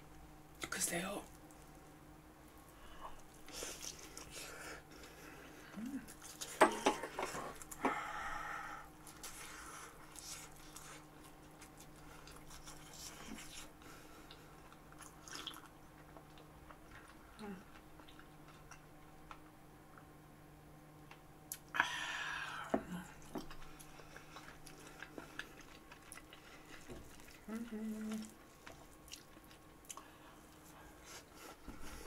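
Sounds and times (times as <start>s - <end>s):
person chewing soft food: 2.6s - 6.6s, 7.5s - 20.1s, 21.1s - 32.0s.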